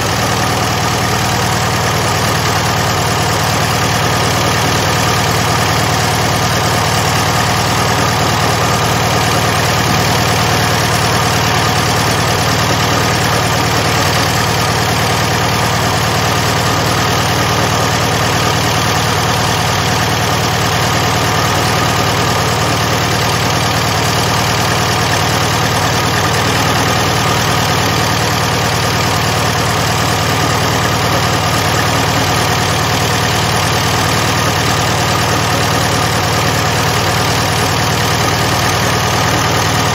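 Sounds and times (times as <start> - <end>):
air-cooled car engine running: 0.0 - 39.9.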